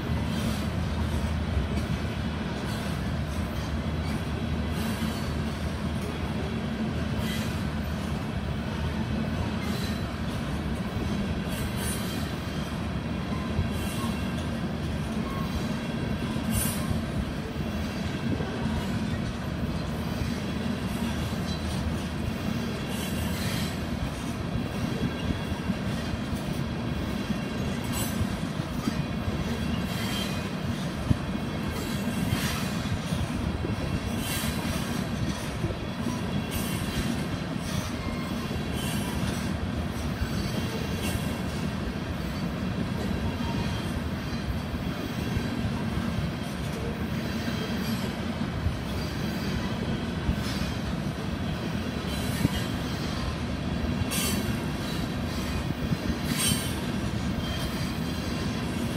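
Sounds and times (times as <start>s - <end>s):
train wheels rumbling on rail: 0.0s - 58.9s.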